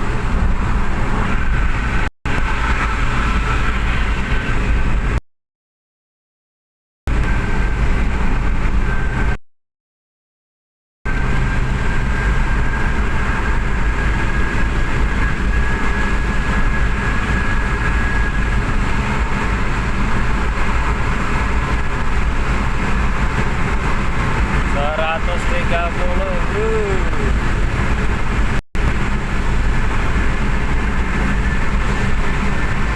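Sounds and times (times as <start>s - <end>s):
engine running with high whine: 0.0s - 5.2s, 7.1s - 9.4s, 11.1s - 32.9s.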